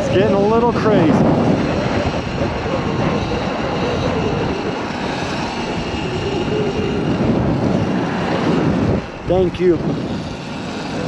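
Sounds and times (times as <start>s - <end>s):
wind and road rush: 0.0s - 11.0s.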